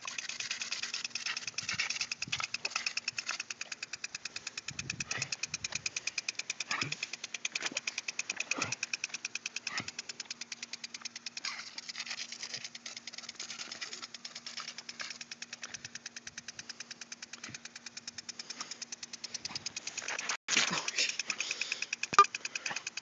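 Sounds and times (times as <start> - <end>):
lawn sprinkler ticking: 0.0 - 23.0.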